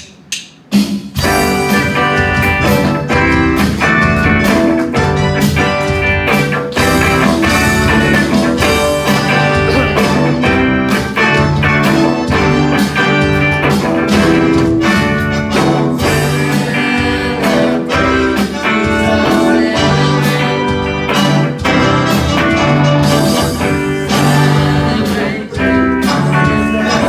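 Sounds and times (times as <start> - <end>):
instrumental guitar music with beat: 0.1 - 27.0.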